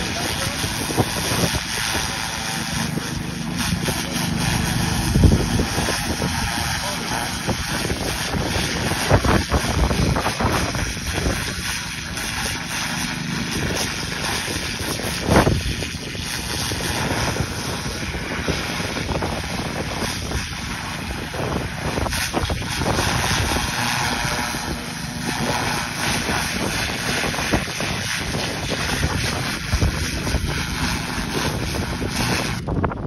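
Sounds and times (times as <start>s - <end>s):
pressure washer spraying: 0.0s - 32.7s
wind buffeting microphone: 0.0s - 33.0s.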